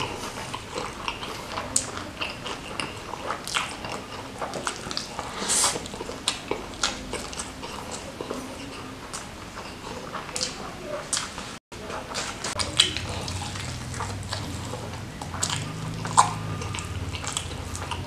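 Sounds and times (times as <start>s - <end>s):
chewing and wet mouth smacks: 0.0s - 18.0s.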